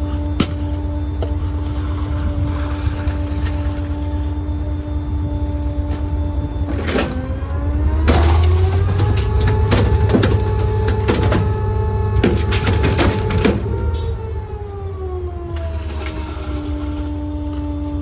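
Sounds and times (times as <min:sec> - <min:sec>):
truck engine revving with whine: 0:00.0 - 0:18.0.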